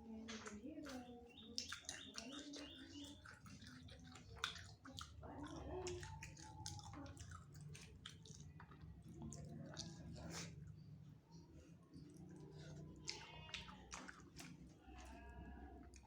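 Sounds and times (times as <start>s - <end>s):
chewing and biting: 0.3s - 10.9s, 11.9s - 16.0s.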